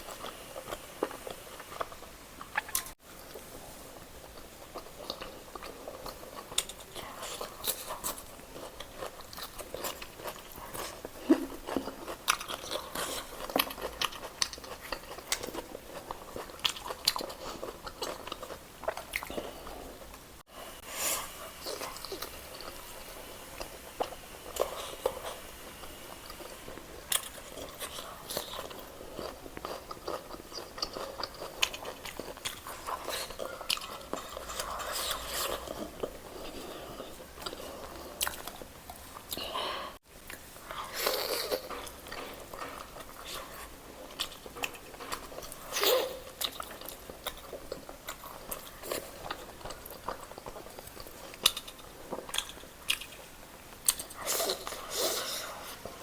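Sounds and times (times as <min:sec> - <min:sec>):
person chewing and crunching: 0:00.0 - 0:03.4, 0:04.3 - 0:20.2, 0:21.4 - 0:39.6, 0:40.2 - 0:56.0.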